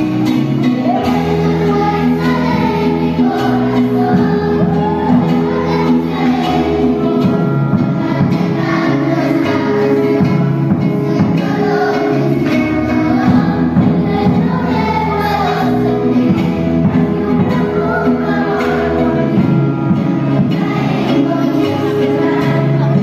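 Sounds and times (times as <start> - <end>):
children's choir singing: 0.0 - 23.0
instrumental accompaniment: 0.0 - 23.0.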